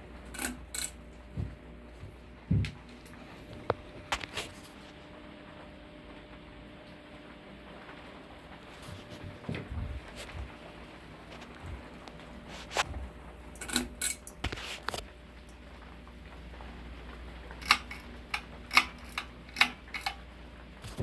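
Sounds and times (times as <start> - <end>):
ceiling fan motor hum: 0.0 - 21.0.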